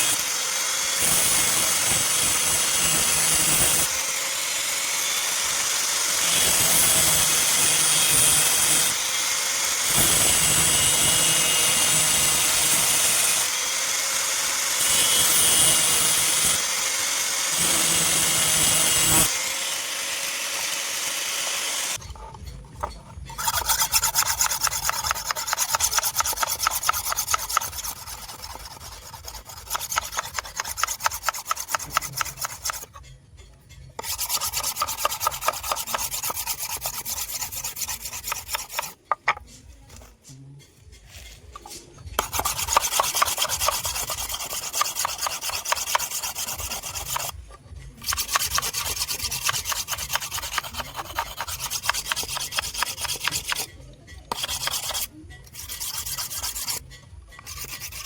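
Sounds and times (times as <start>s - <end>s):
file strokes on metal: 0.0s - 4.0s, 4.8s - 33.2s, 34.0s - 40.3s, 40.9s - 58.0s
grinding on knife blade: 0.0s - 39.5s, 40.8s - 58.0s.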